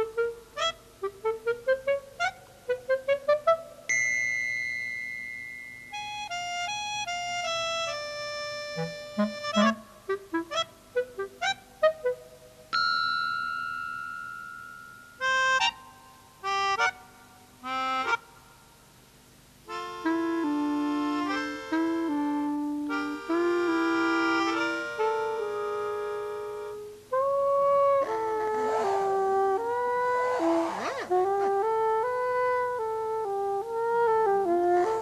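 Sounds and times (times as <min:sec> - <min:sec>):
accordion-like reed instrument chords: 0:00.0 - 0:03.9, 0:05.9 - 0:12.5, 0:15.2 - 0:18.3, 0:19.7 - 0:35.0.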